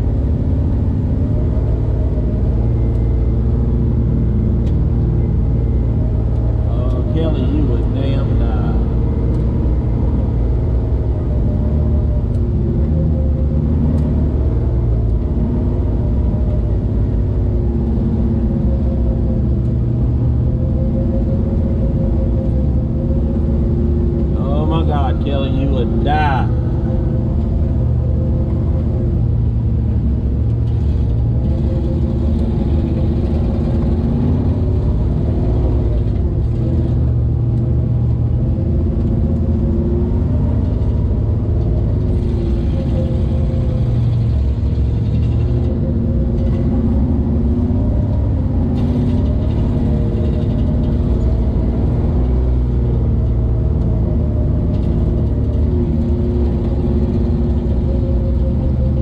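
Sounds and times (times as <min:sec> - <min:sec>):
vehicle engine running at low revs: 0:00.0 - 0:59.0.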